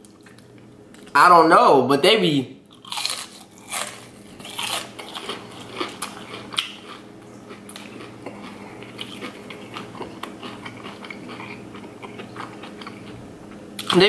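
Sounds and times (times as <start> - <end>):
faint steady hum: 0.0 - 14.0
crunchy chewing: 2.7 - 14.0.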